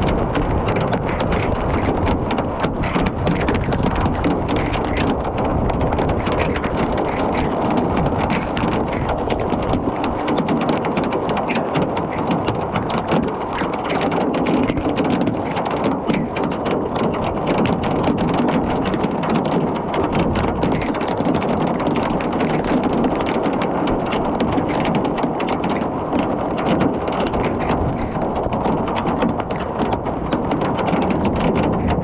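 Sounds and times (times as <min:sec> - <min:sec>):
hailstones striking surfaces: 0:00.0 - 0:32.0.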